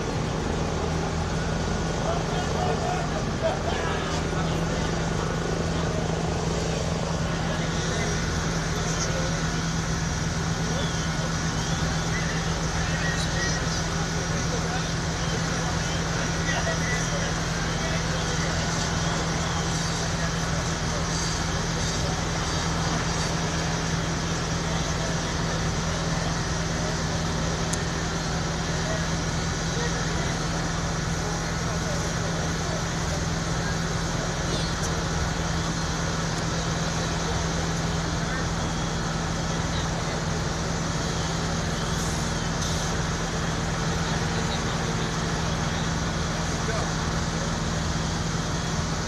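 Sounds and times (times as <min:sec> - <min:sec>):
engines droning: 0:00.0 - 0:49.0
street noise: 0:00.0 - 0:49.0.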